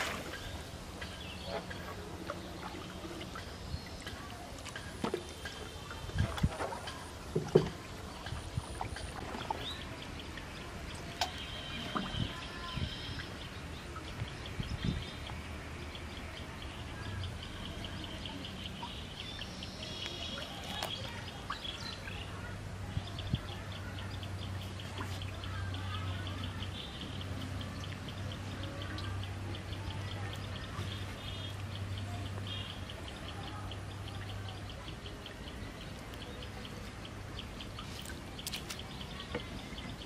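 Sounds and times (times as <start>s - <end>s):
birds chirping: 0.0s - 40.0s
water splashes: 0.0s - 40.0s.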